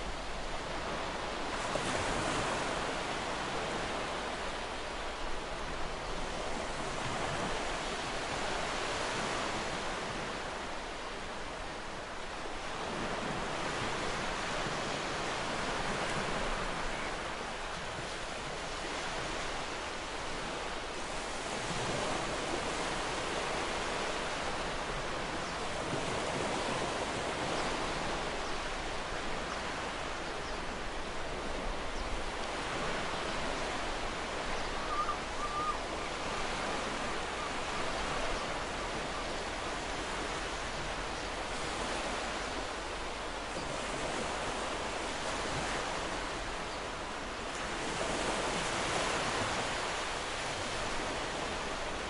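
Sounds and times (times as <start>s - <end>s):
ocean surf on beach: 0.0s - 52.0s.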